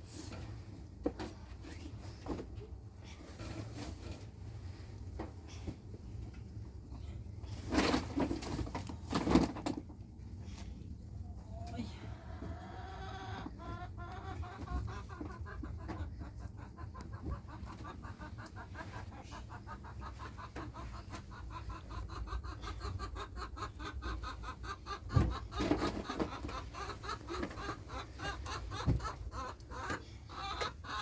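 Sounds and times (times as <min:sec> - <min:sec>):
chickens clucking: 0:00.1 - 0:31.0.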